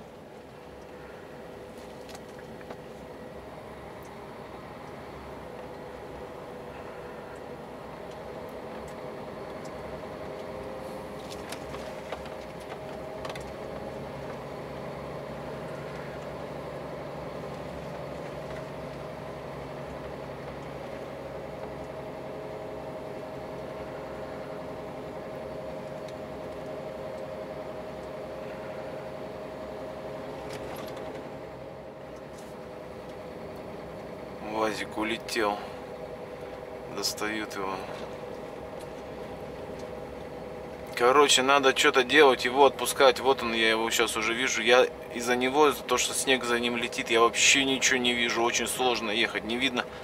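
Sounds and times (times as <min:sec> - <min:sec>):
lower hum: 0:00.0 - 0:50.0
truck engine and road noise: 0:00.0 - 0:50.0.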